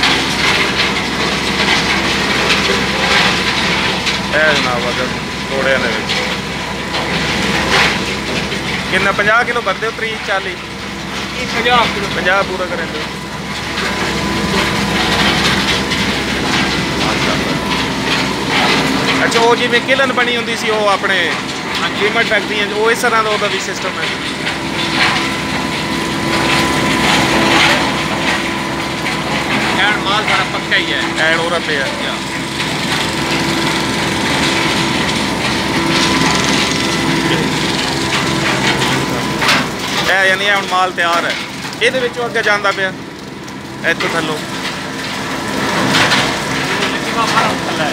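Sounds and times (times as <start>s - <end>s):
factory machinery running: 0.0s - 47.9s
rotary kiln mechanical hum: 0.0s - 47.9s.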